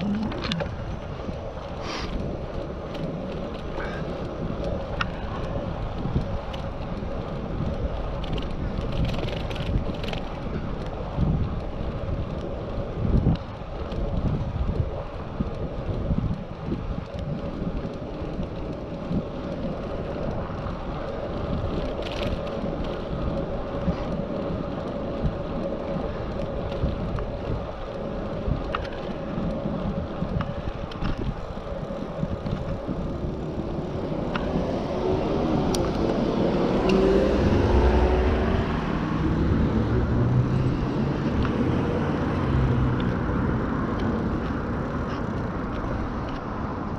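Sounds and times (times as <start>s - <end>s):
bicycle tyre and road noise: 0.0s - 46.9s
low rumble: 0.0s - 46.9s
wind on microphone: 0.0s - 46.9s.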